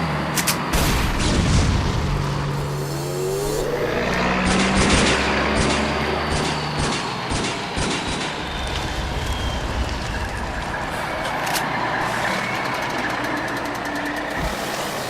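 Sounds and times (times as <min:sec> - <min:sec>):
heavy vehicle engines running hard: 0:00.0 - 0:15.0.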